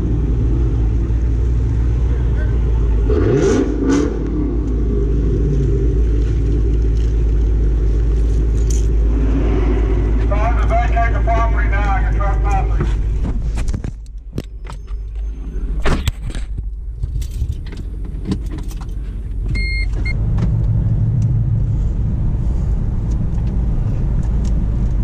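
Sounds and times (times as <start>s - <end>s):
car engine running: 0.0s - 15.8s, 16.5s - 25.0s.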